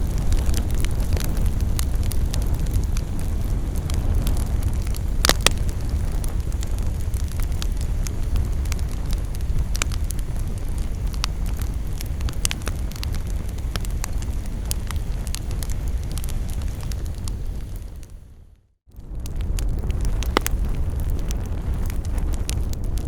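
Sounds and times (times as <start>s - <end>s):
campfire crackling and popping: 0.0s - 18.2s, 18.9s - 23.0s.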